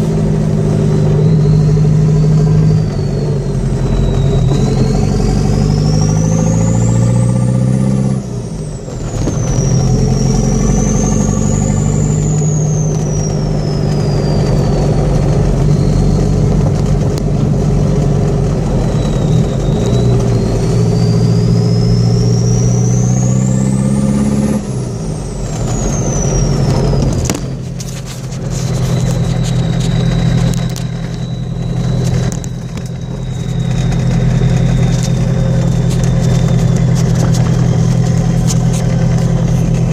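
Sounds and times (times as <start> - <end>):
turbo whistle: 0.0 - 17.2, 18.3 - 39.9
diesel engine running: 0.0 - 39.9.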